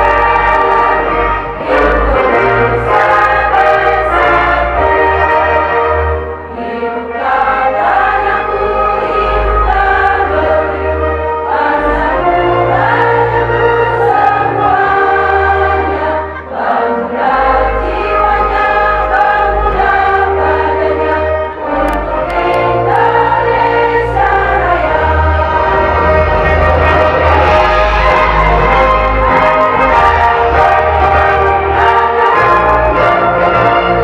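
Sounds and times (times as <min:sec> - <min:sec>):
instrumental accompaniment with bass: 0:00.0 - 0:34.0
women's choir singing: 0:00.0 - 0:34.0.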